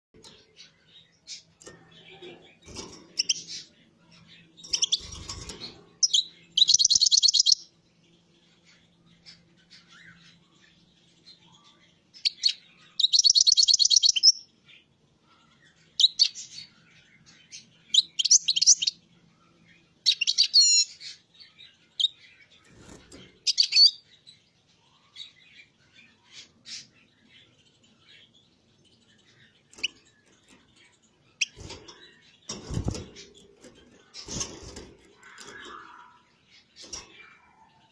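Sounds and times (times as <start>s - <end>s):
songbird chirping and trilling: 0.2s - 37.9s.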